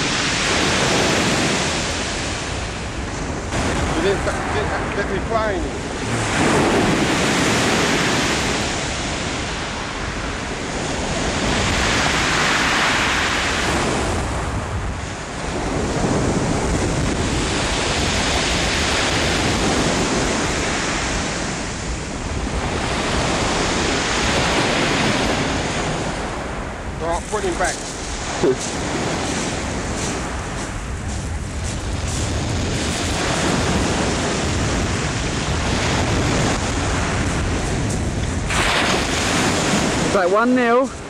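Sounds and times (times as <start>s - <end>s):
surf washing up shingle beach: 0.0s - 41.0s
wind rumbling on microphone: 0.0s - 41.0s.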